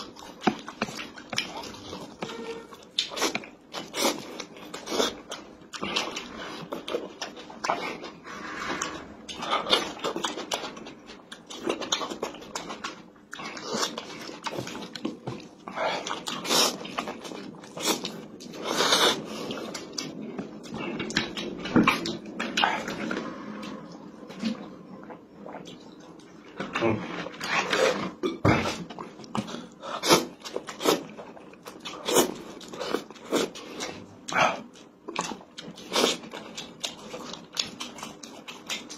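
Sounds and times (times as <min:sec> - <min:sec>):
man chewing wetly: 0:00.0 - 0:38.9.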